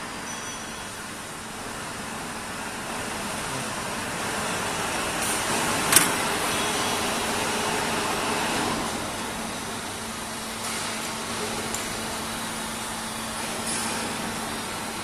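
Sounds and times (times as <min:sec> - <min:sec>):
workshop machinery noise: 0:00.0 - 0:15.0.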